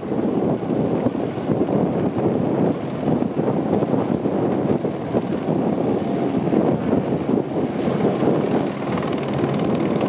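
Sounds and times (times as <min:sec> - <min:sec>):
helicopter rotor and turbine noise: 0:00.0 - 0:10.0
wind buffeting microphone: 0:00.0 - 0:10.0.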